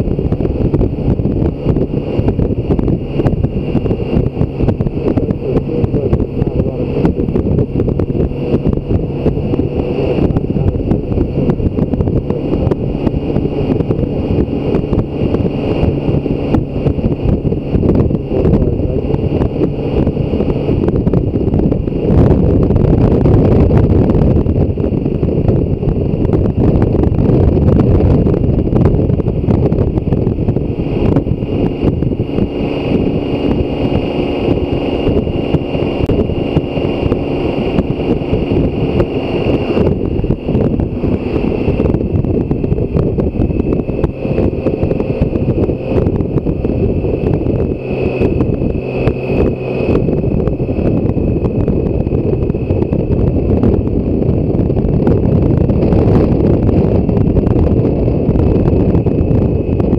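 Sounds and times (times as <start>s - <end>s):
motorcycle engine hum: 0.0s - 59.9s
wind rushing over microphone: 0.0s - 59.9s.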